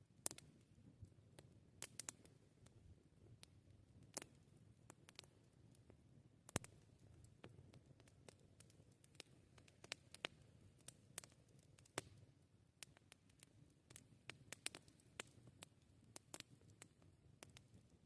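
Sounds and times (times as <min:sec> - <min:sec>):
campfire crackling: 0:00.2 - 0:18.0.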